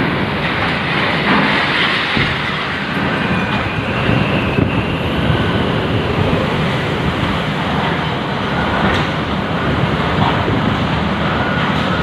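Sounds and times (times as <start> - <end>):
driving rain: 0.0 - 12.0
strong wind rushing: 0.0 - 12.0.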